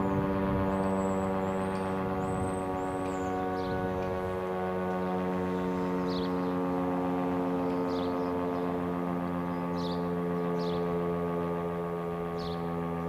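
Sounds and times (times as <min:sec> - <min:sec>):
steady civil defence siren: 0:00.0 - 0:13.0.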